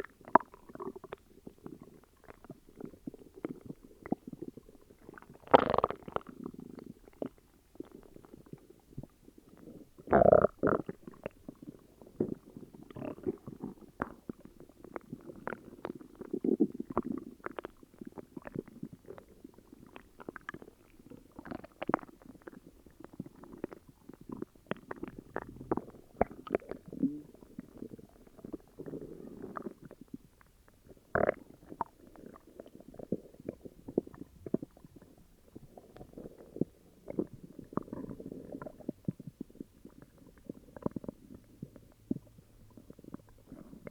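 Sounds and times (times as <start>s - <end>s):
stomach growling and gurgling: 0.0s - 43.9s.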